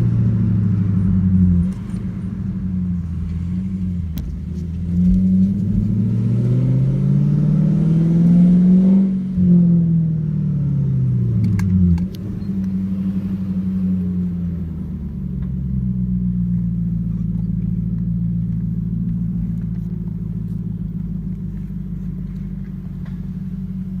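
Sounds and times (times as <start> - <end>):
car exhaust droning: 0.0 - 24.0.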